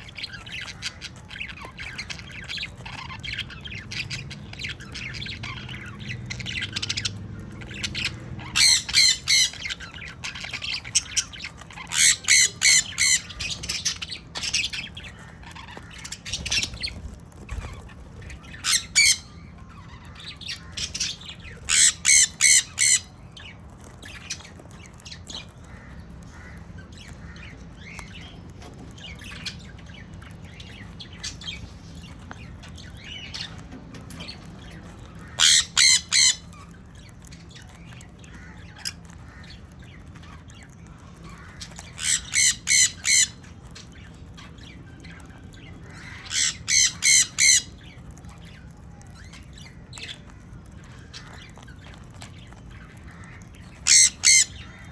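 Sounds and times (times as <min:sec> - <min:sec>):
parrots screeching: 0:00.0 - 0:54.9.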